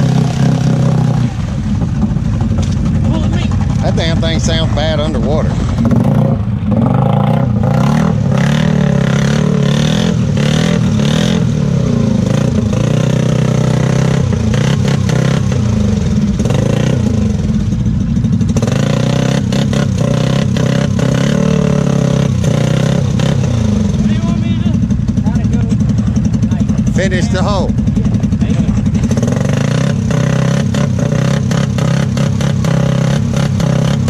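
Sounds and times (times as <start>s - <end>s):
atv engine revving in mud: 0.0s - 34.0s.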